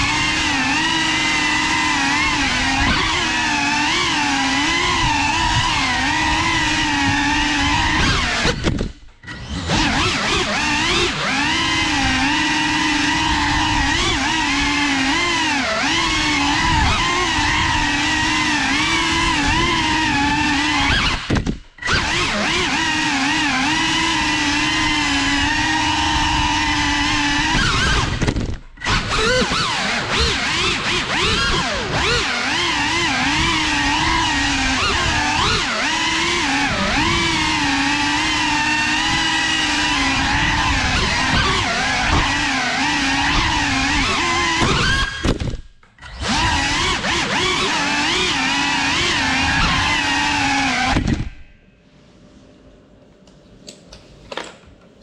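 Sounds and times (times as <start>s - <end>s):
drone propellers whining: 0.0s - 51.6s.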